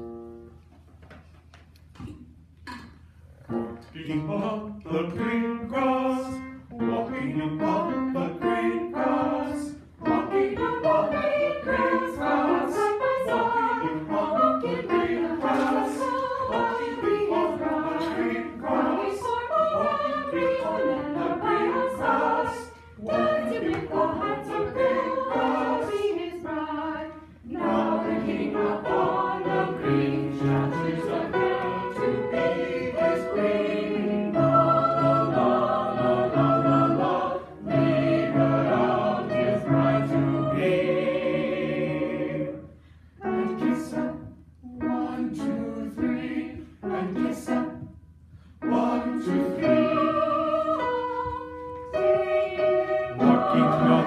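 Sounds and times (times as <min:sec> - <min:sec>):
choir singing: 0:04.1 - 0:47.9, 0:48.6 - 0:54.0.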